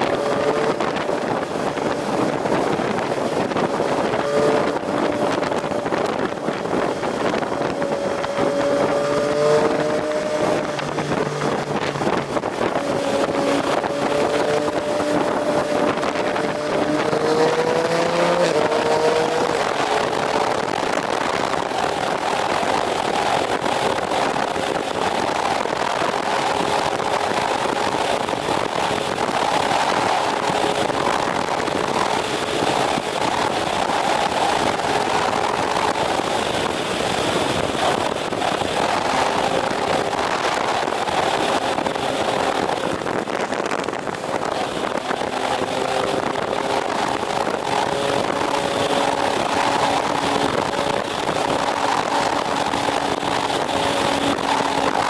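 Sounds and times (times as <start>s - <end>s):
motorcycle engine cruising: 0.0s - 55.0s
steady rushing noise: 0.0s - 55.0s.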